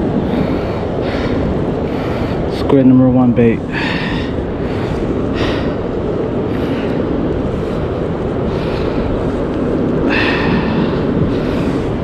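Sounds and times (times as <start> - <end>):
ocean surf rumble: 0.0 - 12.0
wind on microphone: 0.0 - 12.0
breaths close to microphone: 0.2 - 2.6, 3.6 - 12.0.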